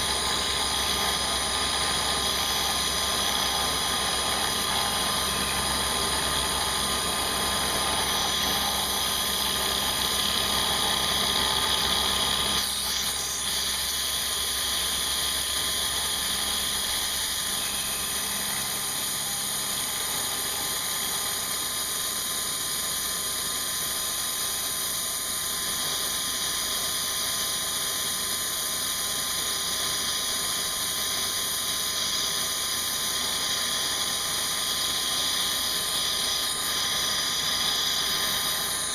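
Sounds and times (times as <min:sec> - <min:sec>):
high machine whines: 0:00.0 - 0:38.9
milling machine running: 0:00.0 - 0:38.9.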